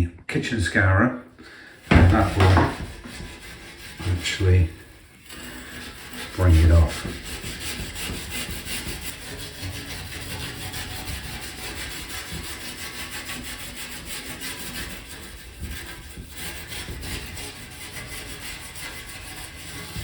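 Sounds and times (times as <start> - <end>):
scourer scrubbing a shower door: 1.5 - 20.0.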